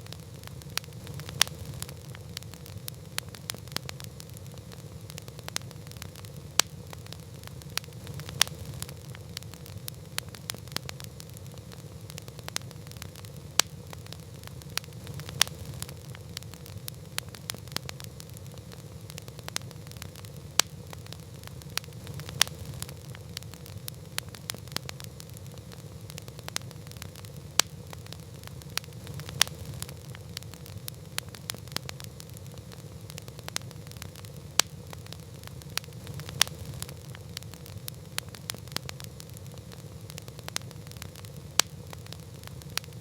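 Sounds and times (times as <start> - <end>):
campfire crackling: 0.0 - 43.0
fire pops and snaps: 0.0 - 43.0.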